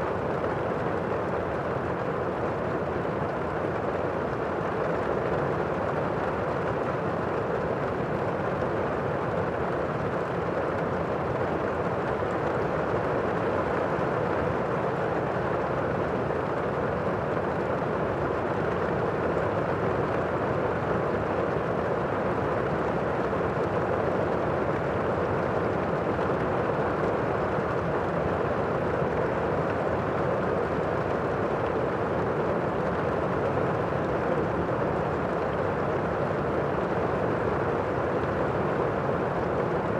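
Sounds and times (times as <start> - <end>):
steady rain heard indoors: 0.0 - 39.9.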